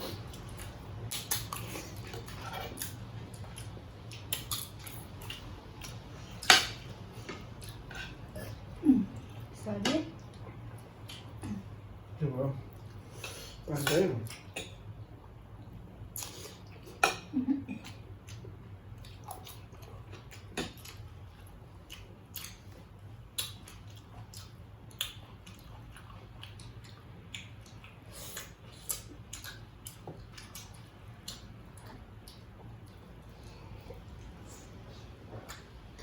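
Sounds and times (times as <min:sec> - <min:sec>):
people chewing: 0:00.0 - 0:09.6, 0:10.2 - 0:11.8, 0:16.1 - 0:36.0
low steady hum: 0:00.0 - 0:36.0.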